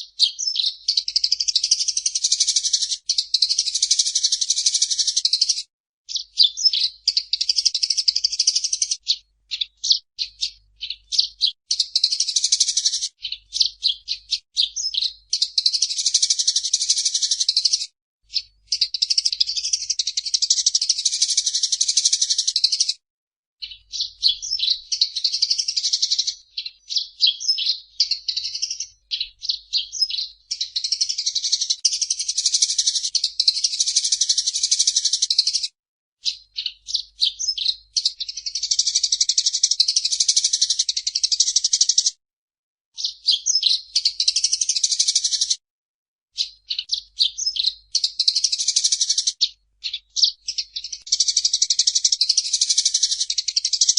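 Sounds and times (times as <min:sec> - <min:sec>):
sparrows chirping and chattering: 0:00.0 - 0:23.0, 0:23.6 - 0:42.2, 0:43.0 - 0:45.6, 0:46.4 - 0:53.9.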